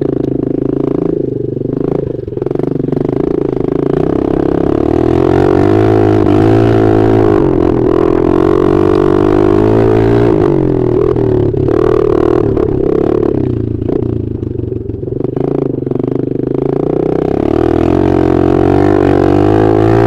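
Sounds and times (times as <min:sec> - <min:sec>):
dirt bike engine running hard: 0:00.0 - 0:20.0.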